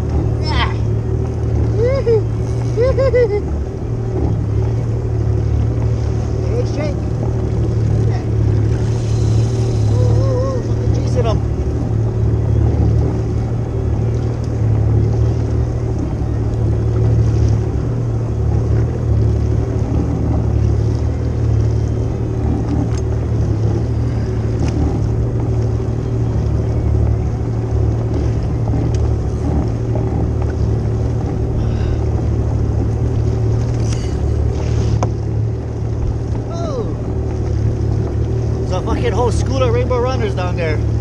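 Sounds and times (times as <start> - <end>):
jet ski engine running: 0.0 - 41.0.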